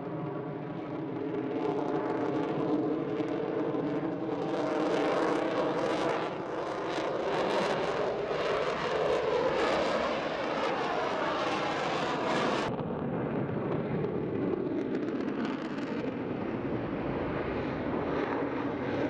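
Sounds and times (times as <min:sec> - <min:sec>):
jet roar in afterburner: 0:00.0 - 0:19.0.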